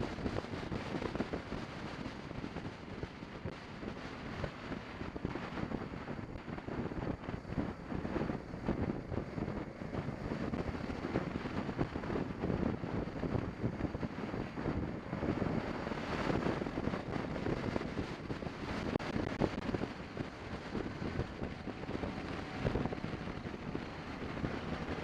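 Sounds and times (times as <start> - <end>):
motorcycle road and engine noise: 0.0 - 25.0
wind buffeting microphone: 0.0 - 25.0.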